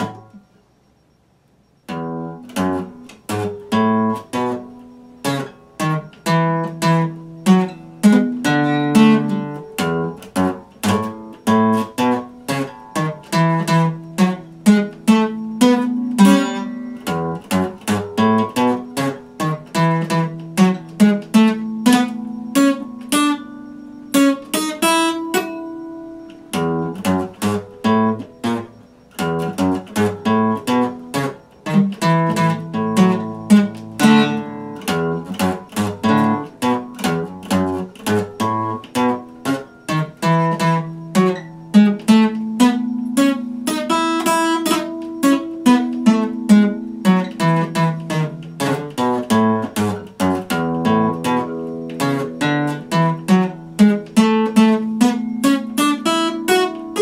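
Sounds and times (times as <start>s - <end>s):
acoustic guitar strumming chords: 0.0s - 0.6s, 1.8s - 57.0s.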